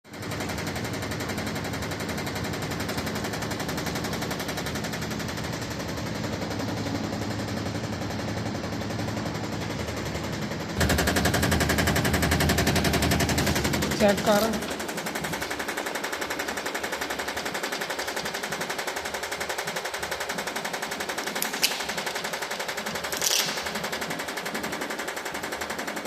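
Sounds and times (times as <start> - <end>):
washing machine knocking rattle: 0.1 - 26.0.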